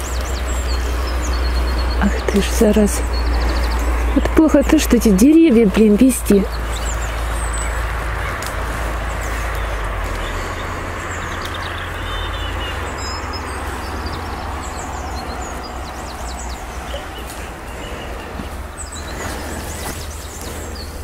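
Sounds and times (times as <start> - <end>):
small birds chirping: 0.0 - 21.0
wind rumbling on microphone: 0.0 - 21.0.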